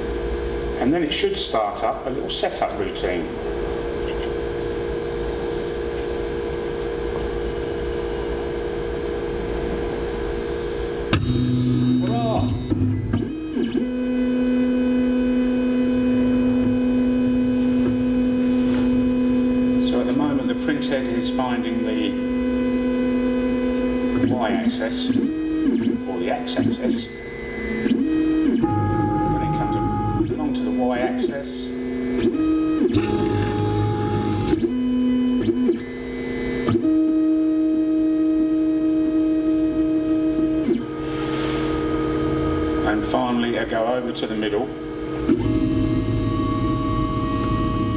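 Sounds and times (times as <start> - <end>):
stepper motors whining: 2.6 - 47.9.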